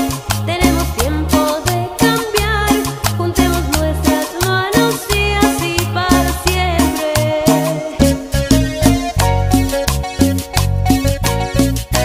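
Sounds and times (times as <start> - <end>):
cumbia dance music: 0.0 - 12.0.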